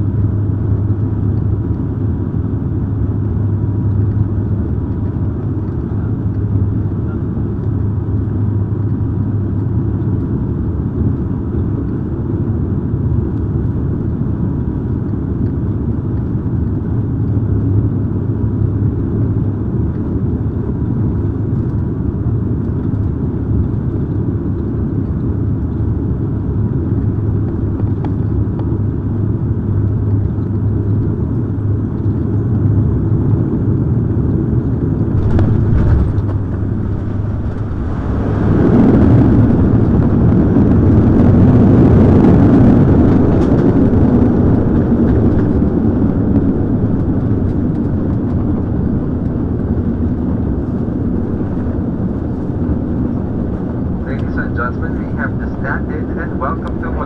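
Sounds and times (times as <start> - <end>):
turboprop engines droning: 0.0 - 57.0.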